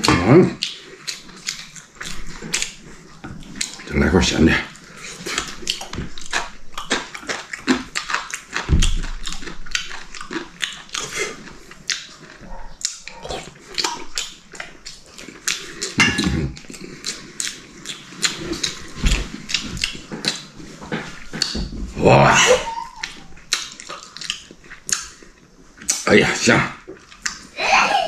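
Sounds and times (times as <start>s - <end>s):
person chewing and smacking: 0.0s - 26.2s, 26.8s - 27.6s.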